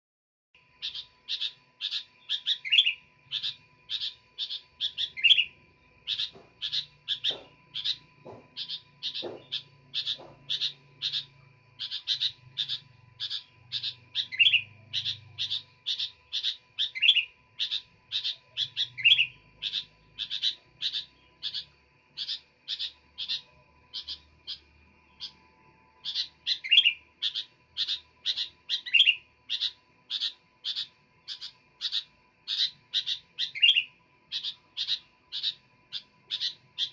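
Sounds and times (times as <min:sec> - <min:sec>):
bird chirping: 0:00.6 - 0:36.9.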